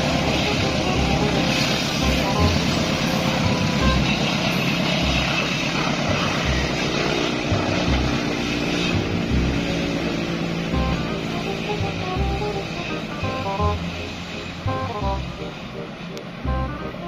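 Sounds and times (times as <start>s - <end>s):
music with low beat: 0.0s - 17.0s
steady tones: 0.0s - 17.0s
vehicle engine droning: 0.0s - 17.0s.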